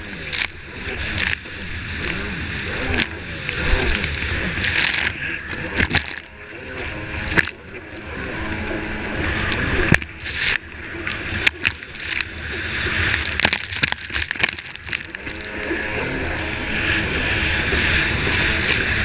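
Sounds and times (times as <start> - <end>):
hull slapping water: 0.0 - 19.0
jet ski engine running hard: 0.0 - 19.0.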